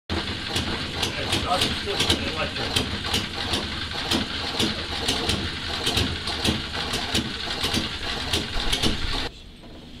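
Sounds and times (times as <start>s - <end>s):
mechanical clatter: 0.1s - 9.9s.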